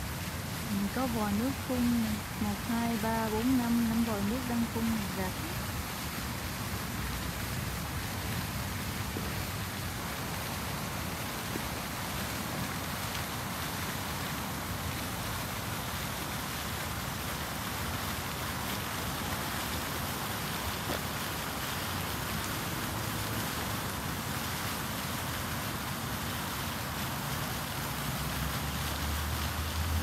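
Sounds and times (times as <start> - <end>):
fountain jets splashing into basin: 0.0 - 30.0.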